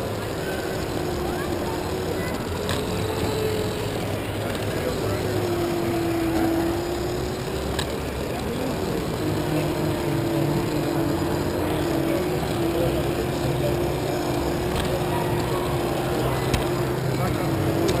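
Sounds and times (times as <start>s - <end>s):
toy train motor whine: 0.0s - 18.0s.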